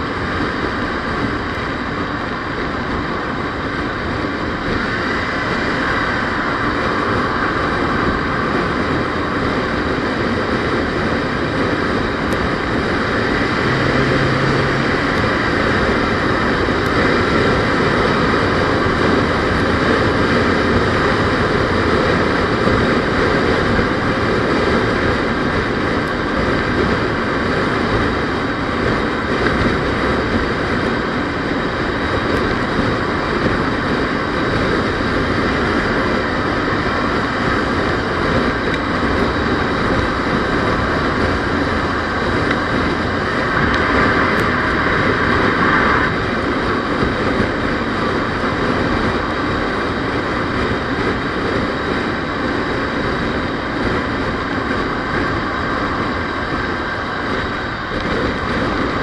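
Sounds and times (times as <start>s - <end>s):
vehicle road and engine noise: 0.0s - 59.0s.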